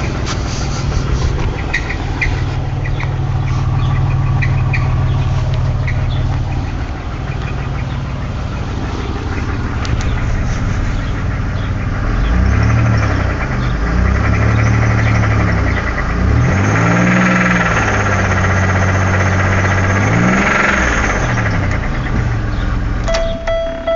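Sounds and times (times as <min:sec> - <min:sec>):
car engine idling and revving: 0:00.0 - 0:23.9.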